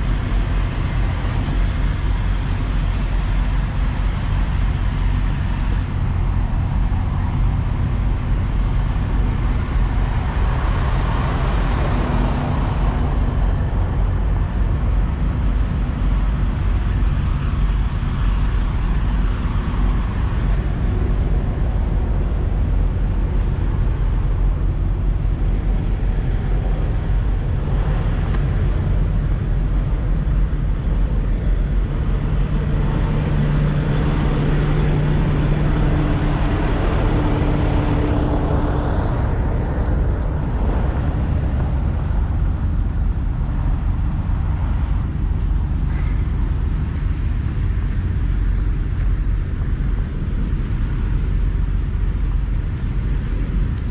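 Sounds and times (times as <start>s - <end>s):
diesel trucks idling: 0.0s - 53.9s
engine hum up close: 0.0s - 53.9s.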